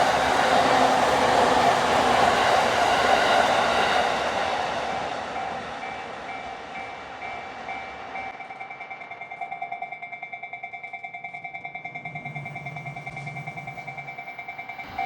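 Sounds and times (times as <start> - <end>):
crossing warning bell ringing: 0.0 - 15.0
train rumbling over rails: 0.0 - 15.0.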